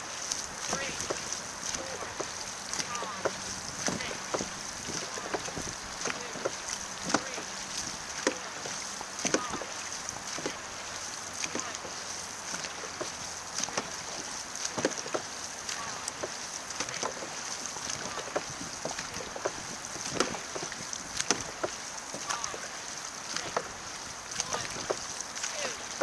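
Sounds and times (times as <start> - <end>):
paddles splashing into water: 0.0 - 26.0
water wash: 0.0 - 26.0
wind: 0.0 - 26.0.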